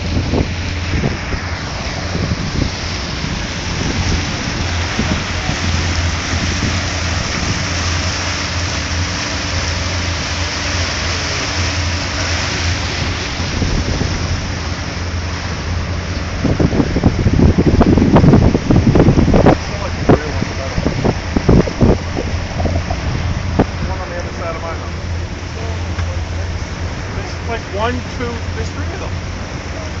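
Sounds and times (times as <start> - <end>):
churning wake water: 0.0 - 30.0
low engine drone: 0.0 - 30.0
wind on microphone: 0.0 - 30.0.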